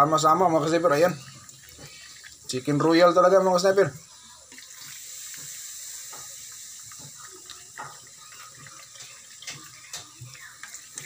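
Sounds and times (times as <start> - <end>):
soft drink pouring and fizzing: 0.0 - 11.0.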